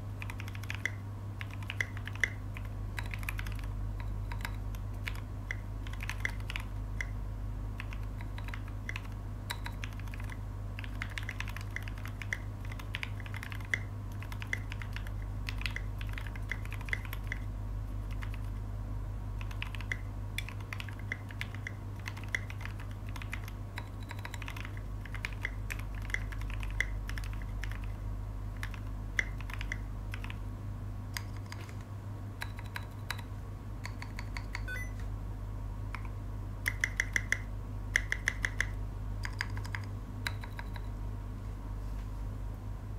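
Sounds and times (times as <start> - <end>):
steady low hum: 0.0 - 42.9
mechanical keyboard typing: 0.2 - 7.2, 7.8 - 18.6, 19.4 - 28.0, 28.6 - 30.4, 31.1 - 31.8, 32.4 - 34.9, 35.9 - 40.9.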